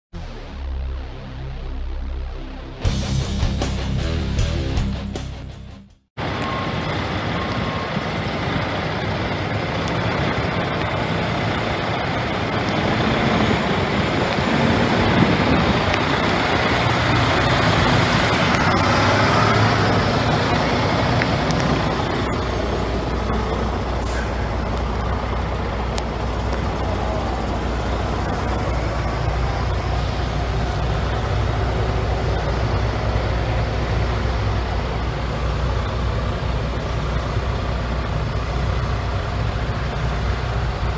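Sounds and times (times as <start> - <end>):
diesel engine idling: 6.2 - 40.9.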